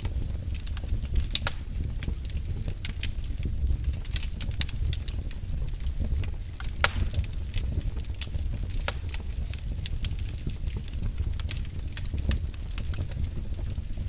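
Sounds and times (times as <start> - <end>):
fireplace fire crackling and popping: 0.0 - 14.0
low rumble of flames: 0.0 - 14.0.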